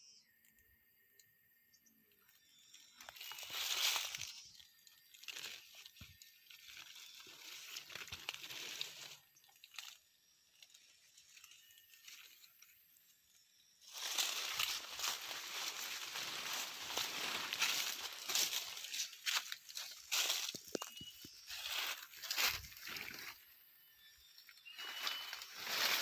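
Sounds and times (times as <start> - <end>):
leaves rustling and crinkling: 2.5 - 26.0.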